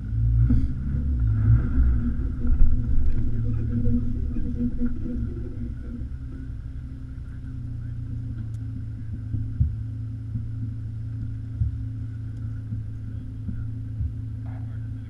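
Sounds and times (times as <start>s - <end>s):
car engine idling: 0.0s - 15.0s
brief low thumps: 0.3s - 15.0s.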